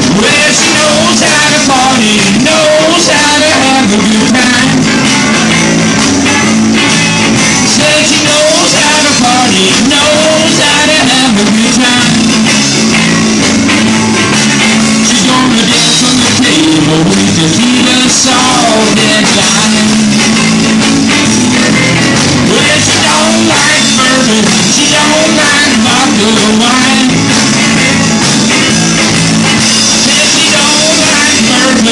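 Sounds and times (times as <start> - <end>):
live rock band playing: 0.0 - 31.9.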